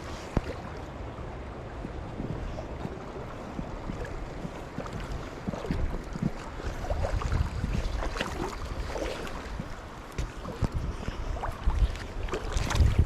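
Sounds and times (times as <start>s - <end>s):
river water splashing and gurgling: 0.0s - 13.0s
wind on microphone: 0.0s - 13.0s
knocks and splashes: 1.8s - 13.0s.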